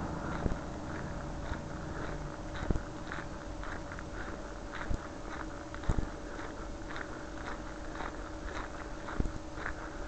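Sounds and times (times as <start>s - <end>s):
faint steady hum: 0.0s - 10.0s
footsteps crunching on a path: 0.0s - 10.0s.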